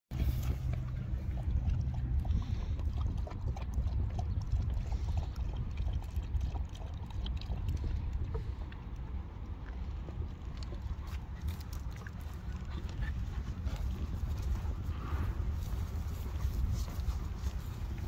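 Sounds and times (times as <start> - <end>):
water lapping against rocks: 0.1 - 18.0
wind rumbling on microphone: 0.1 - 18.0.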